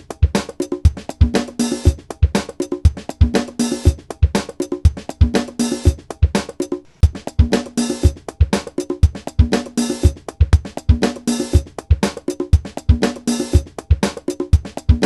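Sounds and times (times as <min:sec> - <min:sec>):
bass drum thumps: 0:00.0 - 0:15.0
drum kit beat: 0:00.0 - 0:15.0.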